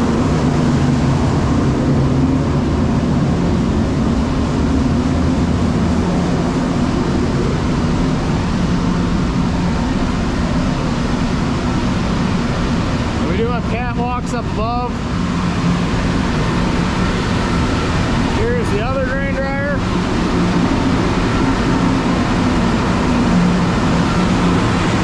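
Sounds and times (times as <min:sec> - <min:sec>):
grain dryer mechanical drone: 0:00.0 - 0:25.0.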